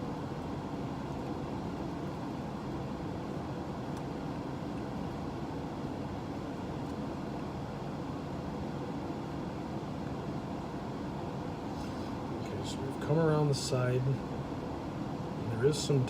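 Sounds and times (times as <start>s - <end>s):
fan or blower rushing hum: 0.0s - 16.0s.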